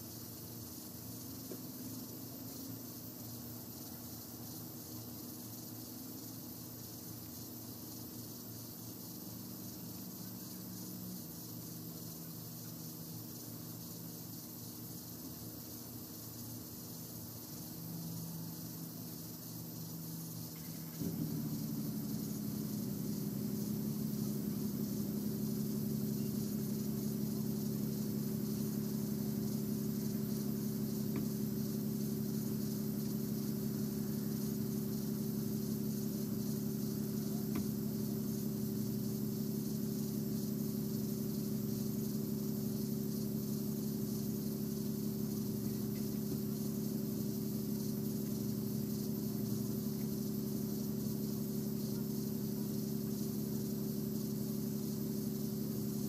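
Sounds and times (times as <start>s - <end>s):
night insects chorus: 0.0s - 56.0s
vehicle engine idling: 0.0s - 56.0s.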